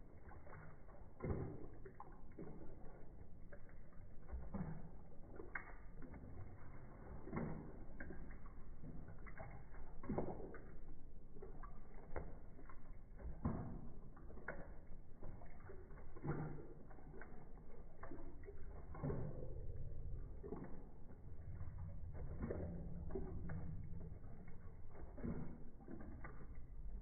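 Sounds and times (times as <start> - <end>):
dog lapping water slowed down: 0.0 - 27.0.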